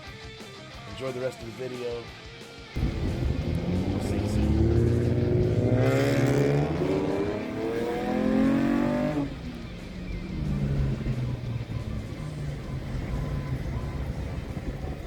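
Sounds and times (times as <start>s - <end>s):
car engine accelerating: 2.8s - 15.0s.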